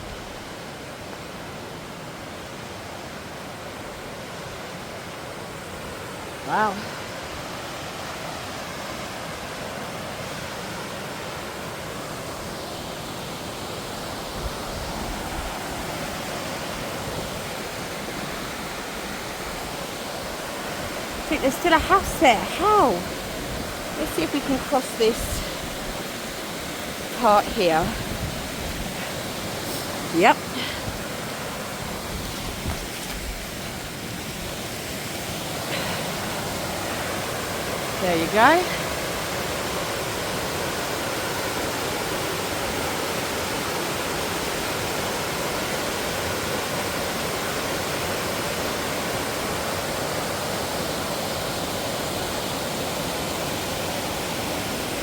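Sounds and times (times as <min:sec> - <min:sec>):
waterfall rushing: 0:00.2 - 0:55.0.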